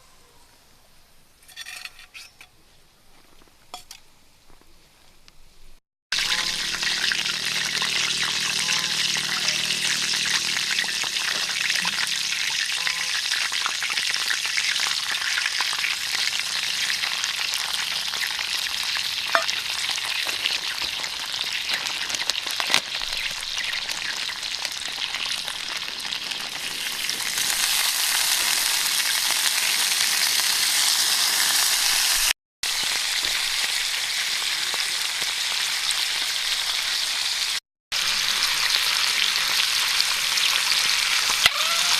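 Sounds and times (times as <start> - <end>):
food sizzling in a frying pan: 6.1 - 41.9.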